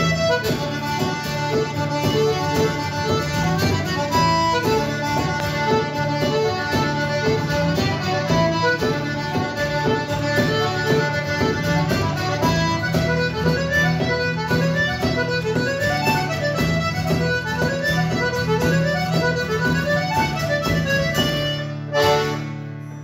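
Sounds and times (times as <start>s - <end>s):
bodhran drum: 0.0s - 22.2s
acoustic guitar: 0.0s - 23.0s
button accordion playing a tune: 0.0s - 23.0s.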